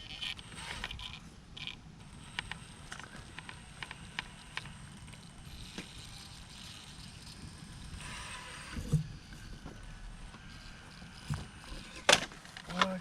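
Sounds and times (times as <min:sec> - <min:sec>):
electric motor and gears whirring: 0:00.0 - 0:13.0.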